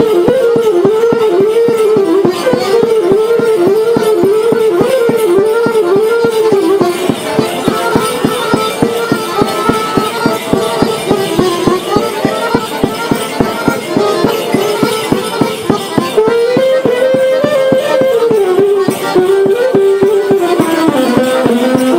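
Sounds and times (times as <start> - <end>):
folk dance music: 0.0 - 21.9.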